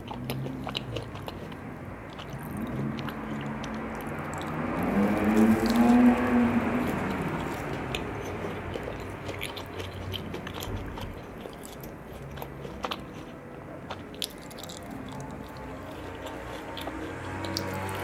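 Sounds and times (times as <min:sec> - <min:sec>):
wet chewing sounds: 0:00.0 - 0:18.0.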